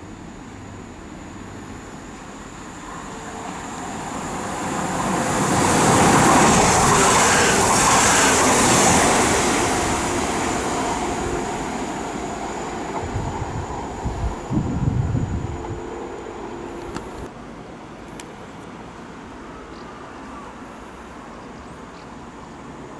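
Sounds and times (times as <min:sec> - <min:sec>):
train passing: 0:00.0 - 0:22.9.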